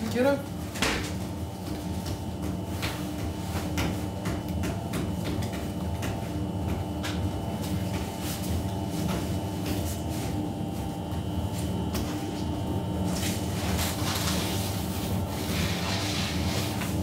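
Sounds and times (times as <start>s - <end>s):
machine hum: 0.0s - 17.0s
hands patting dough on wood: 0.5s - 17.0s.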